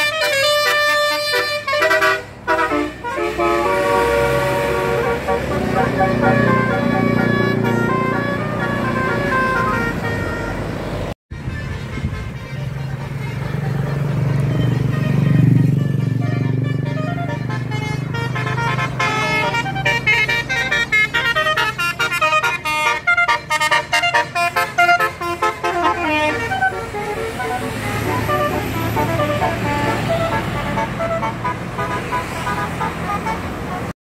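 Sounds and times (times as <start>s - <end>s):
bus engine rumble: 0.0s - 33.9s
bus horn playing a tune: 0.0s - 33.9s.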